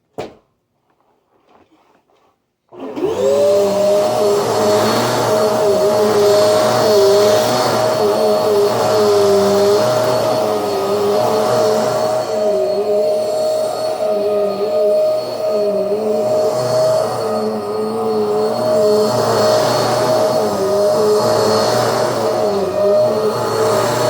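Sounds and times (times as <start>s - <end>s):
vacuum cleaner running: 2.7s - 24.0s.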